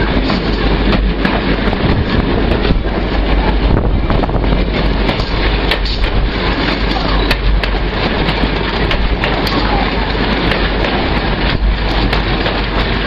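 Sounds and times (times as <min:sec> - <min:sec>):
moving passenger train: 0:00.0 - 0:13.0
wind buffeting microphone: 0:00.0 - 0:13.0.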